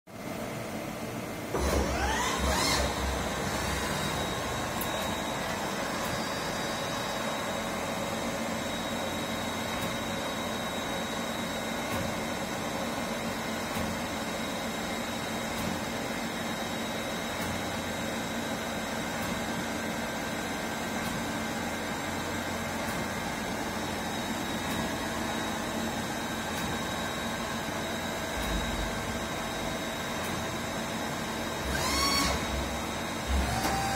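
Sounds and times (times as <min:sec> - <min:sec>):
milling machine whine: 0:01.5 - 0:33.9.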